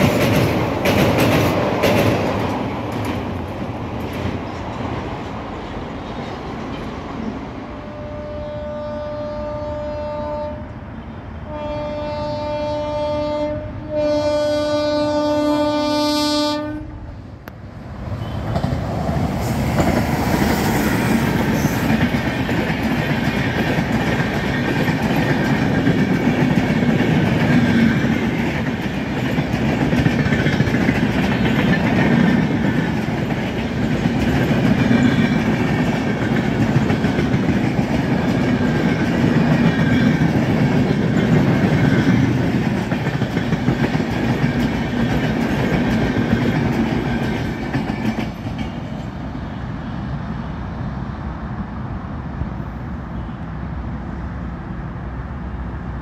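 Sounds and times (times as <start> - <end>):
train passing at high speed: 0.0 - 56.0.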